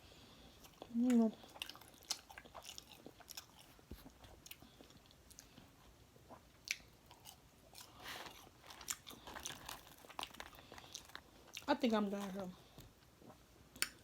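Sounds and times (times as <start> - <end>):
person chewing food: 0.4 - 14.0.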